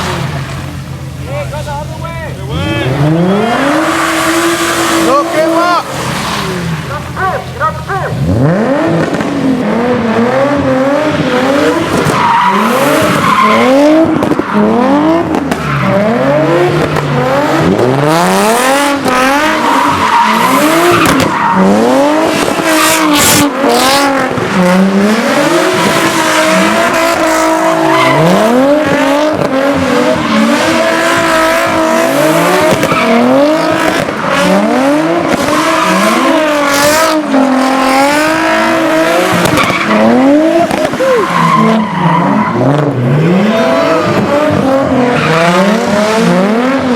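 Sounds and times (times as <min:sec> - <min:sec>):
car engine revving: 0:00.0 - 0:46.9
tyres squealing and skidding: 0:00.0 - 0:46.9.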